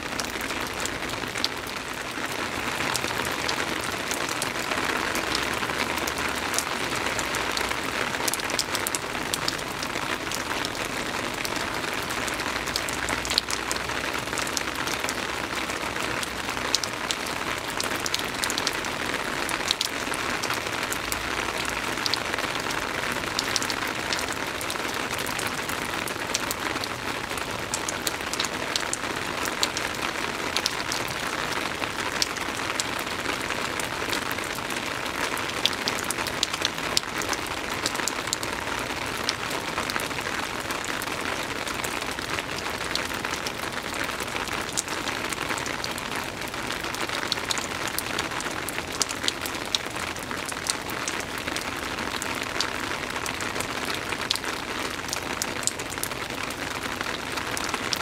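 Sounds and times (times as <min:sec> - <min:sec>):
soft rain falling: 0:00.0 - 0:58.0
raindrops ticking: 0:00.2 - 0:58.0.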